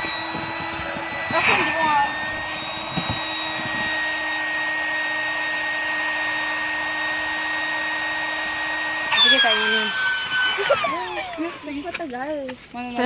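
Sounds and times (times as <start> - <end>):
electric air pump whining: 0.0 - 12.5.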